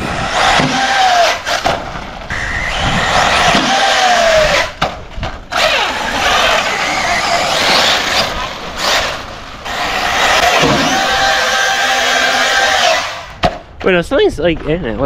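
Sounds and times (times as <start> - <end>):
electric motor whining: 0.0 - 4.8, 5.5 - 13.4.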